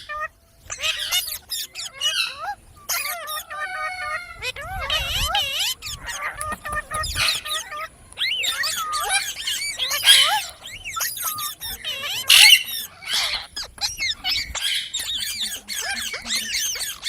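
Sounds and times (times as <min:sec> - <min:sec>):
parrots squawking: 0:00.0 - 0:17.0
parrots twittering chirps: 0:00.0 - 0:17.0.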